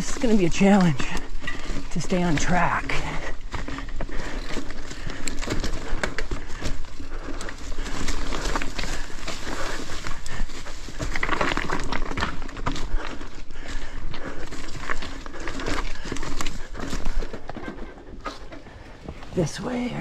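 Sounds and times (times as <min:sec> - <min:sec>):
bike clattering over rocks: 0:00.0 - 0:19.1
tyres crunching through dry leaves: 0:00.0 - 0:20.0.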